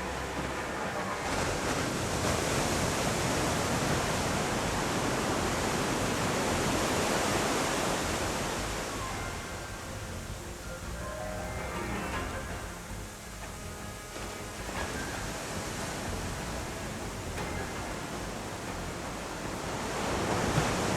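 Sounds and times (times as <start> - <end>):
ocean surf rushing: 0.0 - 20.9.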